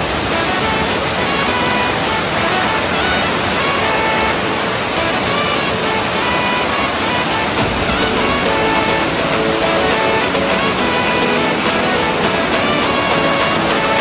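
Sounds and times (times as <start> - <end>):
background music: 0.0 - 14.0
waterfall rushing over rocks: 0.0 - 14.0.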